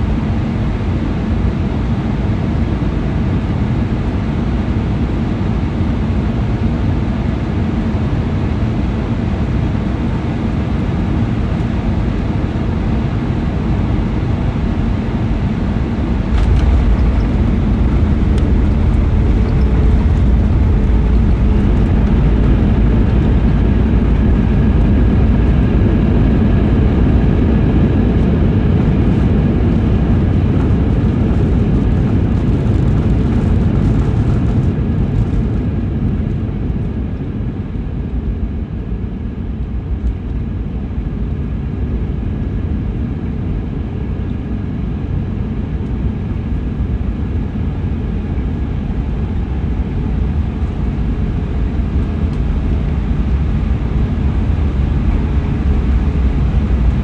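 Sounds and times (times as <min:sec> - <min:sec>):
airplane cabin rumble during landing: 0:00.0 - 0:57.0.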